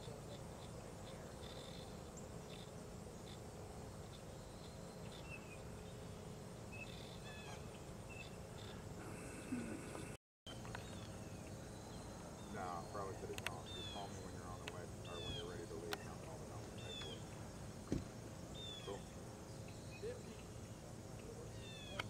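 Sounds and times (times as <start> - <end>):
bird chirps: 0.0 - 22.0
faint insect calls: 0.0 - 22.0
low background hiss: 0.0 - 22.0.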